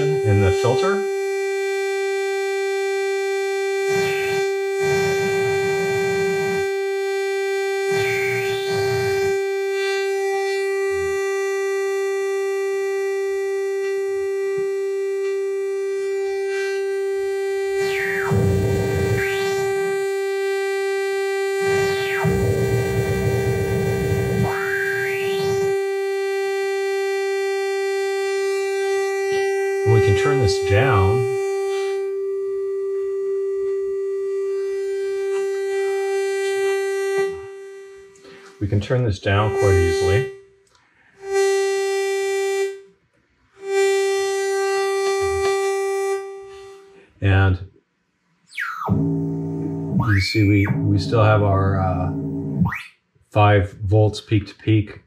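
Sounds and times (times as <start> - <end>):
buzzy sweeping synth passages: 0.0 - 42.9, 43.6 - 47.5, 48.5 - 52.9
synthesizer steady pitched tone: 0.0 - 47.6, 48.5 - 53.6.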